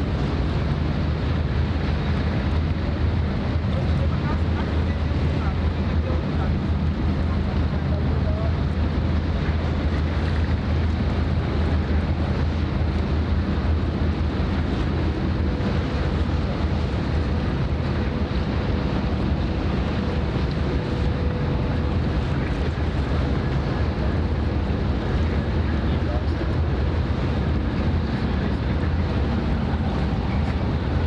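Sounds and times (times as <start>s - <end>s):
ship engines droning: 0.0s - 31.0s
water washing: 0.0s - 31.0s
wind buffeting microphone: 0.0s - 31.0s.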